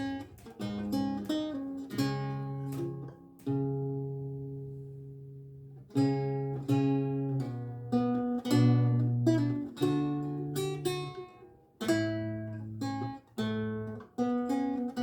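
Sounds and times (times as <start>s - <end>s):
lute plucked solo: 0.0s - 15.0s.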